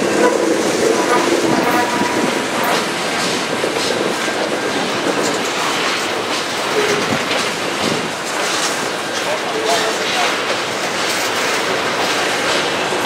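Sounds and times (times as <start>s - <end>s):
train wheels rumbling on rail: 0.0s - 13.0s
wheels clickety-clack: 0.0s - 13.0s.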